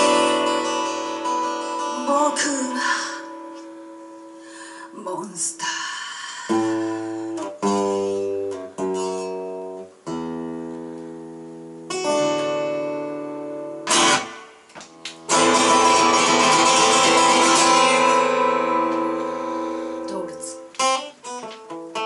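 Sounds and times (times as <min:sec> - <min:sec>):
acoustic guitar chords and strumming: 0:00.0 - 0:05.0, 0:06.5 - 0:22.0.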